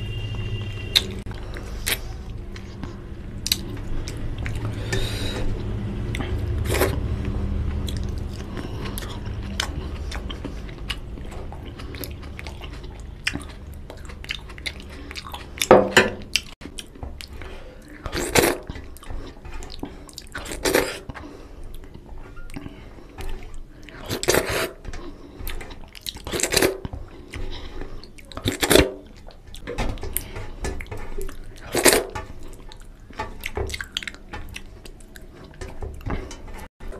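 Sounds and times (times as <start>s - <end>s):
chewing with mouth clicks: 0.9s - 36.7s.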